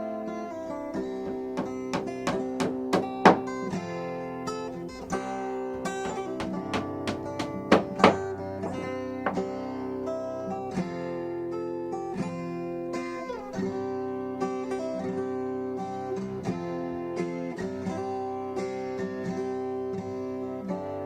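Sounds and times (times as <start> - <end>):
acoustic guitar picking a melody: 0.0 - 21.0.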